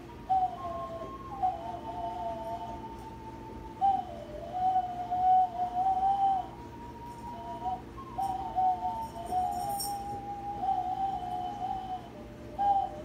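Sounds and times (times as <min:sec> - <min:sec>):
breathy whistle-like wind instrument: 0:00.0 - 0:13.0.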